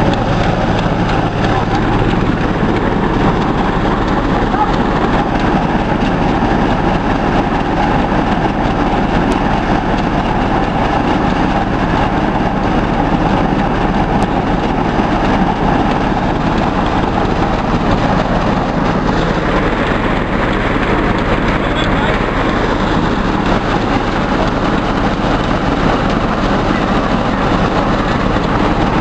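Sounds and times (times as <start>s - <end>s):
rice thresher running: 0.0s - 29.0s.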